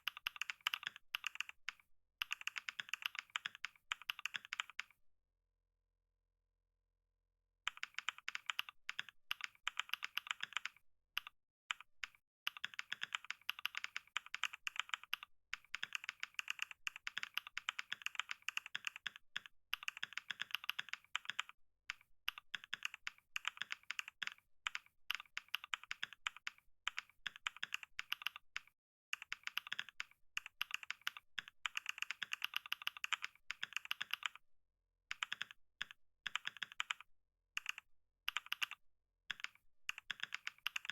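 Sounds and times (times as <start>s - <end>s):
computer keyboard typing: 0.0s - 5.0s, 7.7s - 34.4s, 35.1s - 40.9s.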